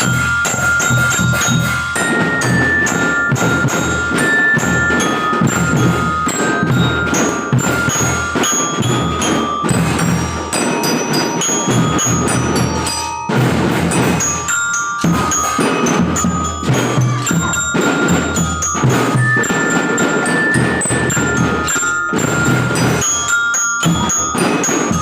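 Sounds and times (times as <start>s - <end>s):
bell-like melody: 0.0s - 25.0s
snare and bass drum beats: 0.0s - 25.0s.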